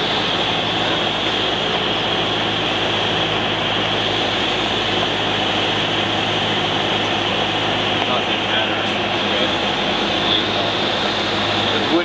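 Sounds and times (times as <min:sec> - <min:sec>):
airflow noise: 0:00.0 - 0:12.0
light aircraft engine drone: 0:00.0 - 0:12.0.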